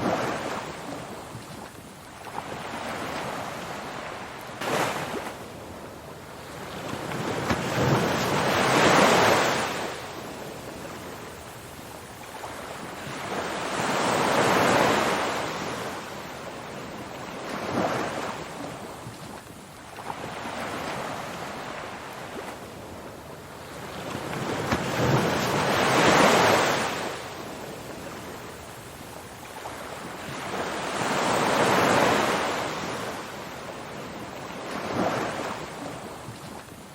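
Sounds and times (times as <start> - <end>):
ocean waves breaking: 0.0 - 36.9.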